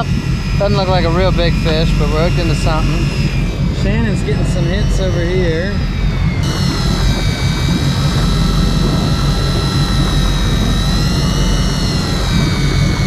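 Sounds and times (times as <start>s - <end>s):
boat noise: 0.0s - 13.0s
fishing reel motor whining: 0.0s - 13.0s
wind rumble: 0.0s - 13.0s.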